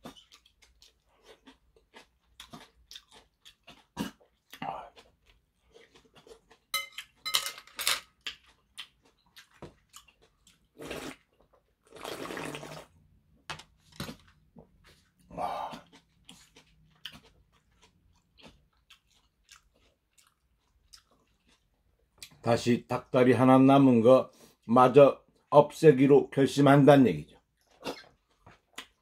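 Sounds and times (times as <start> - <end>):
person chewing: 0.0 - 7.3, 8.0 - 22.4, 27.3 - 29.0.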